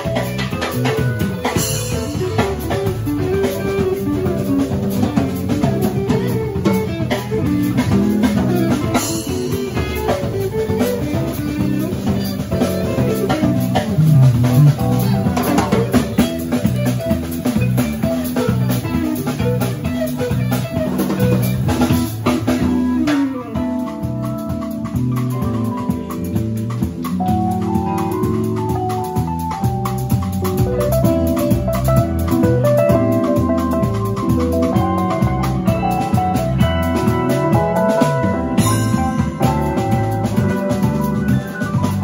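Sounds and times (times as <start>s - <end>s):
bass guitar: 0.0s - 42.0s
drum kit: 0.0s - 42.0s
electric guitar lead lines: 0.0s - 42.0s.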